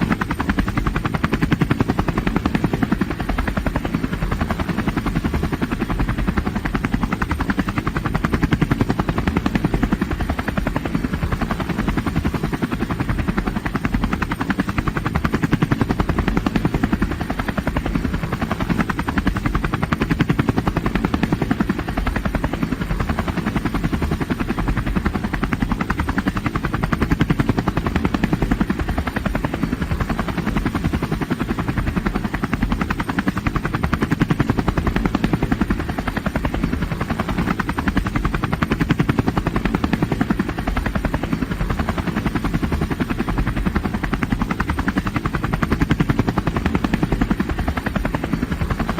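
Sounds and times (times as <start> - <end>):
helicopter rotor chopping: 0.0 - 48.9.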